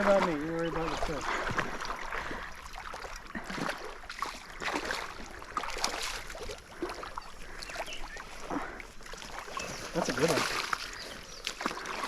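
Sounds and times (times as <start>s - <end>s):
splashing in shallow water: 0.0s - 12.0s.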